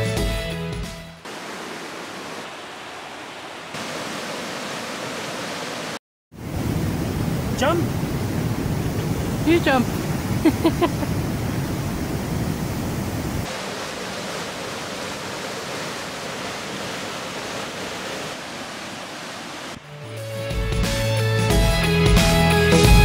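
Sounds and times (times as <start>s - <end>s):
waterfall cascading over rocks: 1.2s - 19.9s.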